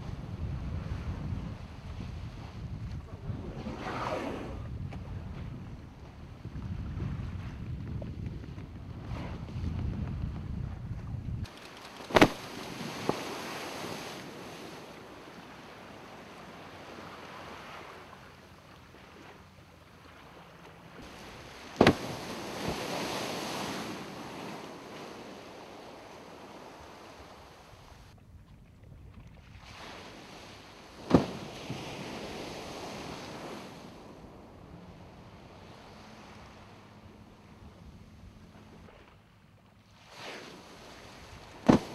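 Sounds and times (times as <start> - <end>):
sea noise: 0.0 - 9.8, 11.4 - 41.9
waves slapping a boat hull: 0.0 - 41.9
wind: 0.0 - 41.9.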